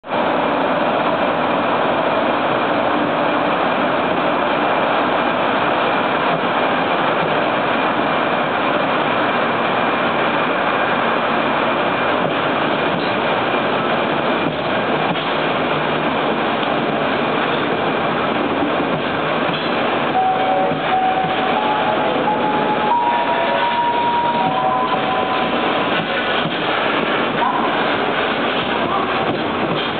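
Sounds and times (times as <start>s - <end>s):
freight train wagons rolling: 4.0s - 29.9s.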